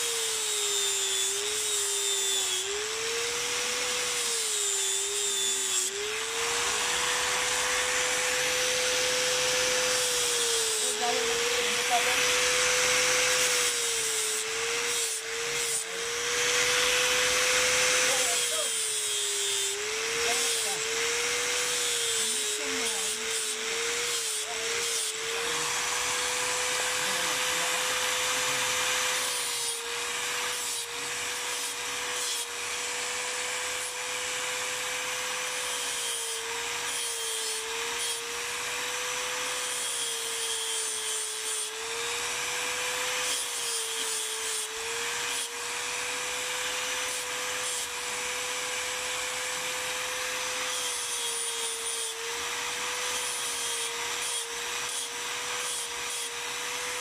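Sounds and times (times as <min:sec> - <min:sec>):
angle grinder grinding horn: 0:00.0 - 0:57.0.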